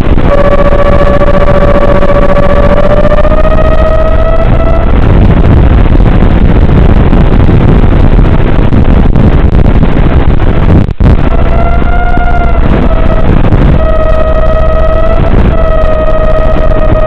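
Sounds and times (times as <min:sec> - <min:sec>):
loud wind rush: 0:00.0 - 0:17.0.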